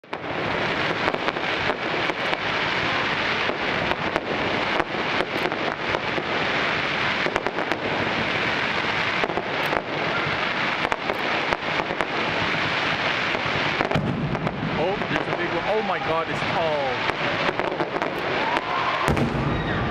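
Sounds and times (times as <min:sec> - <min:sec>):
fireworks bangs: 0:00.0 - 0:19.9
fireworks crackling: 0:00.0 - 0:19.9.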